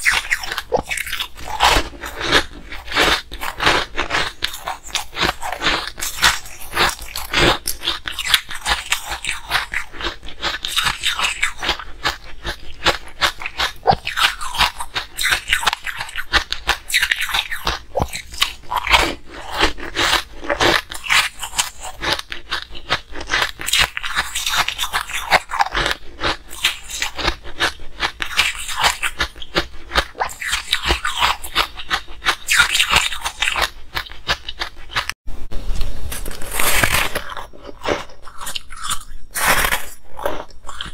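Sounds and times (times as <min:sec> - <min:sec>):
ice crunching between teeth: 0:00.0 - 0:35.2, 0:36.1 - 0:40.9.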